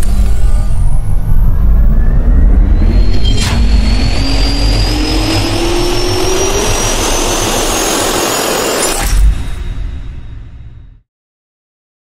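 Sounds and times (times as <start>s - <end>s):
turbine whine rising: 0.0s - 10.8s.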